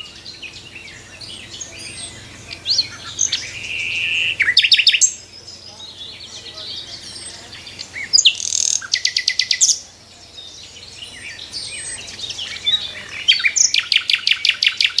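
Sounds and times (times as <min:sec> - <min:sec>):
bird trill: 0:00.0 - 0:15.0
songbirds chirping and singing: 0:00.0 - 0:15.0.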